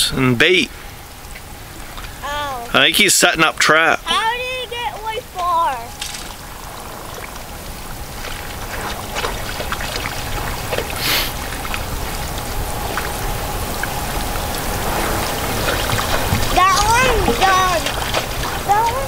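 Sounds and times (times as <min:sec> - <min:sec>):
steady low rumble: 0:00.0 - 0:19.0
water trickling on ice: 0:00.7 - 0:19.0.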